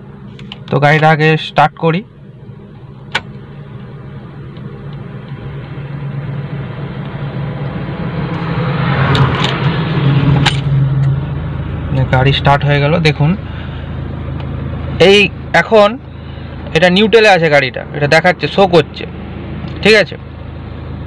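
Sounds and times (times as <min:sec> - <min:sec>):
diesel engine starting and idling: 0:00.0 - 0:21.0.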